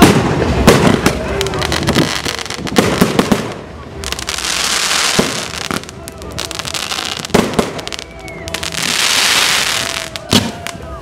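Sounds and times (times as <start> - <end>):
firework bangs: 0.0 - 10.9
fireworks hissing and crackling: 0.0 - 11.0.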